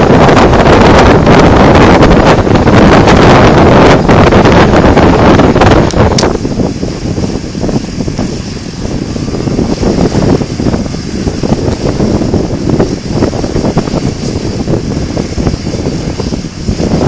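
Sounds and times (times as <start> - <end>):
high turbine whine: 0.0 - 17.0
turboprop engines running: 0.0 - 17.0
wind buffeting the microphone: 0.0 - 17.0.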